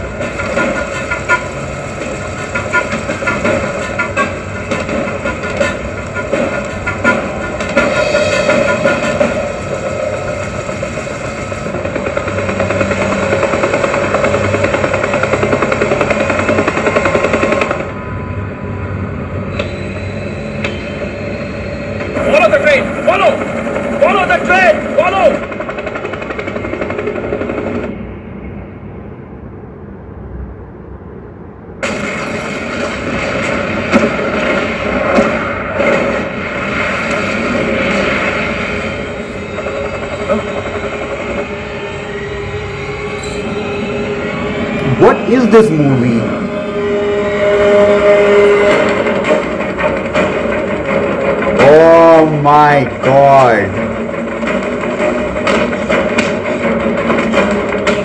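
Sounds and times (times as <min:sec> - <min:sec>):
film soundtrack music: 0:00.0 - 0:31.0, 0:31.8 - 0:58.0.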